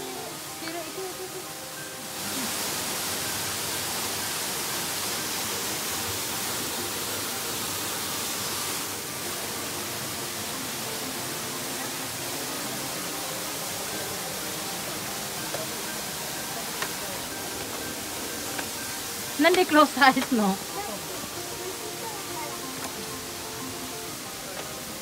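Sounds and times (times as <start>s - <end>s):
small waterfall rushing: 0.0s - 25.0s.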